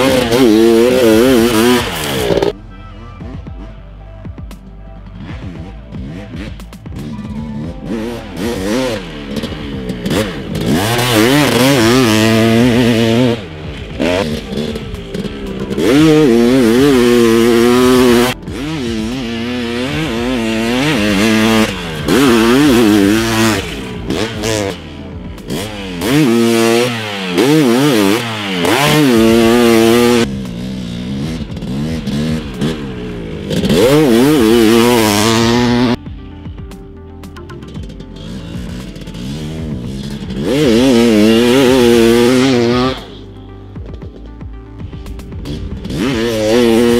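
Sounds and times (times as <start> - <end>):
dirt bike engine revving: 0.0 - 4.5, 5.1 - 36.2, 37.5 - 46.9.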